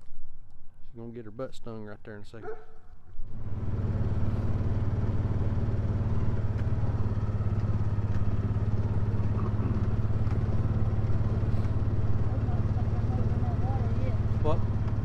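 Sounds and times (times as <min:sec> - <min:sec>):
small vehicle engine humming: 0:02.4 - 0:15.0.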